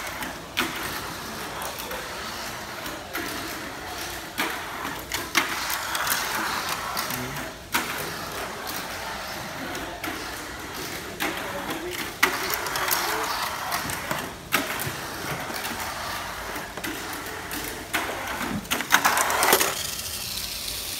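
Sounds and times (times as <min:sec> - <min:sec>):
toy car whirring and rattling: 0:00.0 - 0:20.9.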